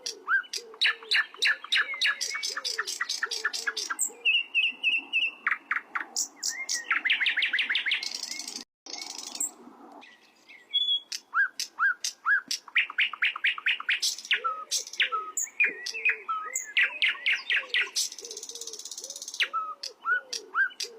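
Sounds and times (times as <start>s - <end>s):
flycatcher singing: 0.3s - 20.9s.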